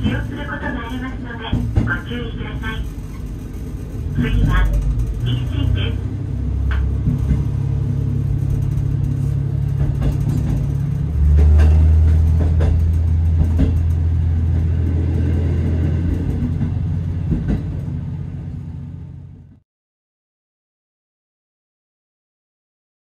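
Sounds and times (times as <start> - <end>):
wheels clicking on track: 0.0 - 6.0, 6.6 - 19.2
train diesel engine droning: 0.0 - 19.6.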